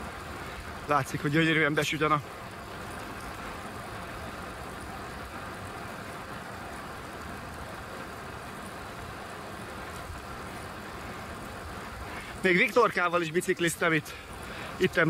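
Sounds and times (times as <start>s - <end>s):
bicycle tyres rolling: 0.0s - 15.0s.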